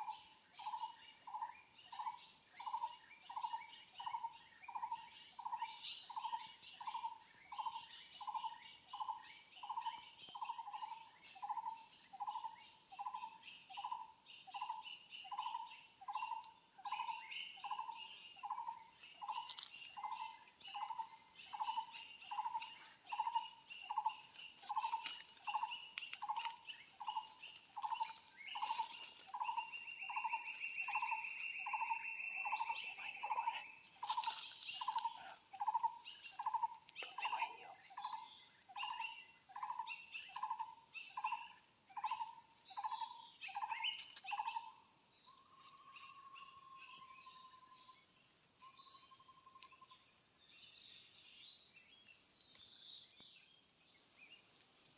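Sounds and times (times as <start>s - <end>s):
high insect whine: 0.0s - 54.9s
insects chirping: 0.0s - 54.9s.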